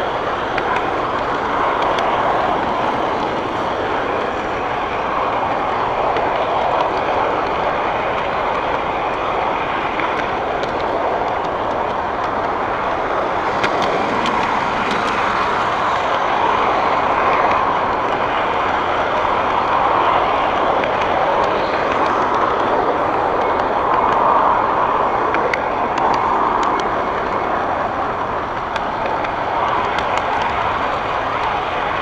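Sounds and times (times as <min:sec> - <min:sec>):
model train rumbling on track: 0:00.0 - 0:32.0.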